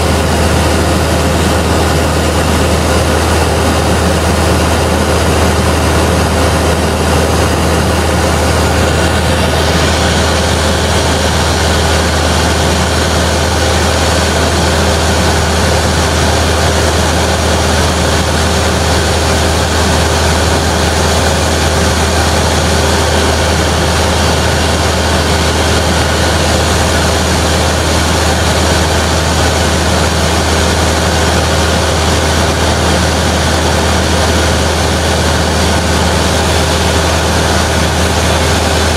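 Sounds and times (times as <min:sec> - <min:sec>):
airplane engine drone in cabin: 0:00.0 - 0:38.9.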